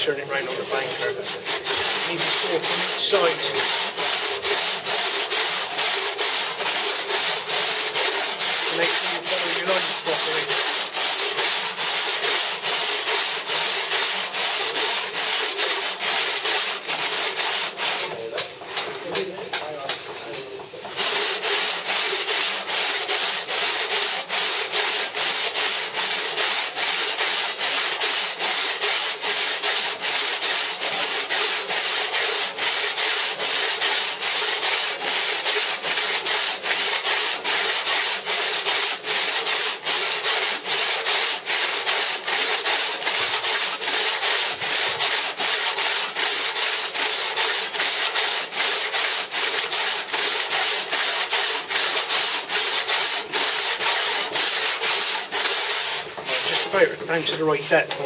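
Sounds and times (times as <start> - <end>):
hand saw rasping through stone: 0.0 - 20.0, 20.9 - 58.0.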